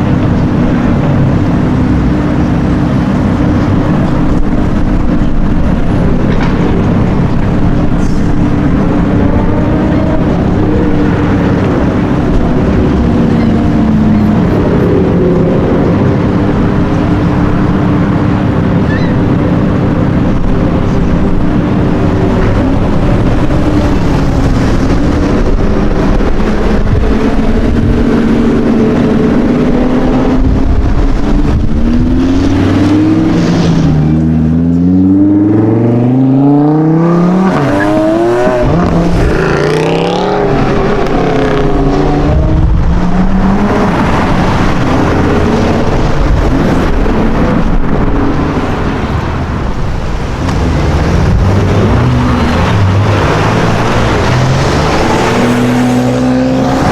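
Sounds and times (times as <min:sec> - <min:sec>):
sports car engine revving: 0:00.0 - 0:56.9
traffic rumble: 0:00.0 - 0:56.9.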